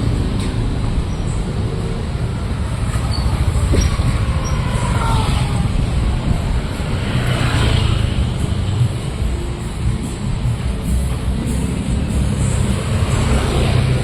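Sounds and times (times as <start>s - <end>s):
low traffic rumble: 0.0s - 14.0s
vehicles passing by: 0.0s - 14.0s.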